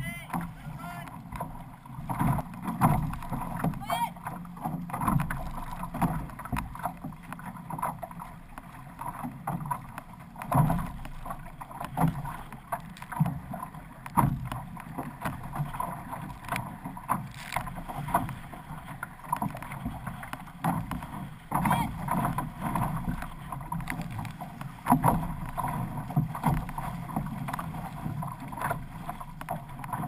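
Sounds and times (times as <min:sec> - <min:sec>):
paddle strokes splashing: 0:00.0 - 0:30.0
water rushing past a hull: 0:00.0 - 0:30.0.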